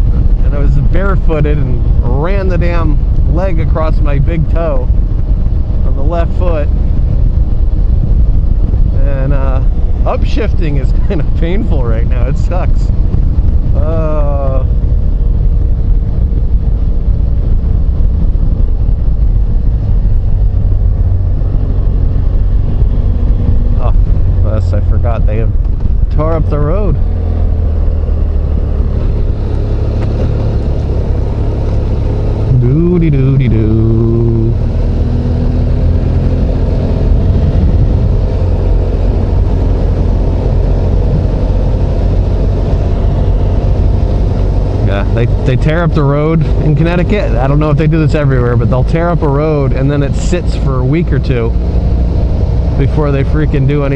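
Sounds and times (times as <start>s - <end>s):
motorcycle engine drone: 0.0s - 53.9s
wind rush on microphone: 0.0s - 53.9s.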